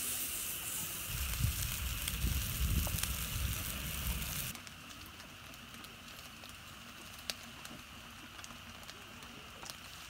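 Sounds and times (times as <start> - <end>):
faint crackles: 0.0 - 10.0
skewers sizzling on grill: 0.0 - 10.0.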